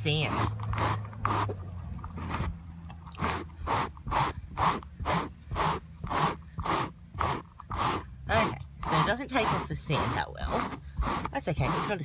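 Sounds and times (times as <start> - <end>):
pet-hair remover scraping upholstery: 0.0 - 12.0.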